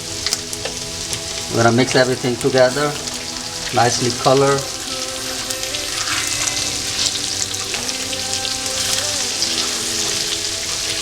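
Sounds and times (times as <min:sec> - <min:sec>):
spices sizzling in oil: 0:00.0 - 0:11.0.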